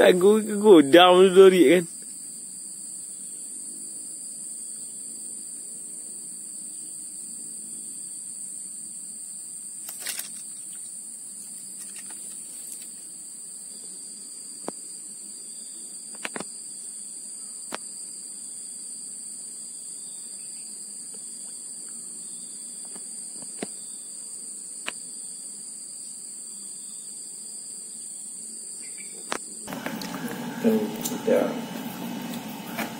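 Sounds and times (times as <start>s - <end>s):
insects droning: 0.0s - 32.9s.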